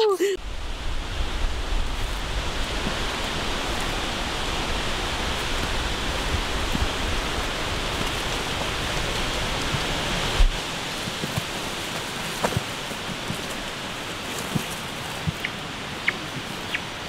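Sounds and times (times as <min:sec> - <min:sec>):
steady hiss: 0:00.1 - 0:17.0.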